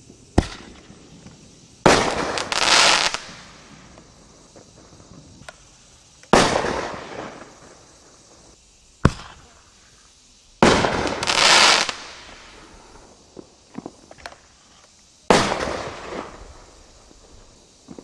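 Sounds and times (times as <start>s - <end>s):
firework bangs: 0.0s - 5.7s, 6.3s - 9.6s, 10.6s - 14.4s, 15.3s - 18.0s
small firework pops: 0.0s - 9.6s, 10.6s - 12.6s, 13.3s - 18.0s
firework burst with hiss: 0.0s - 18.0s.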